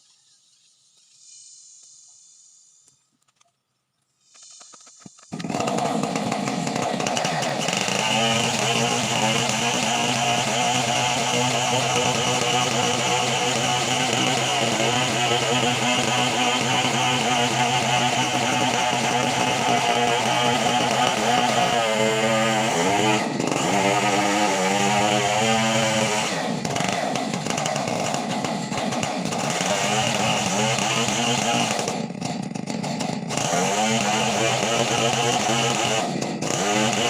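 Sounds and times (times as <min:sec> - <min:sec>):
chainsaw running at high revs: 0:05.3 - 0:37.0.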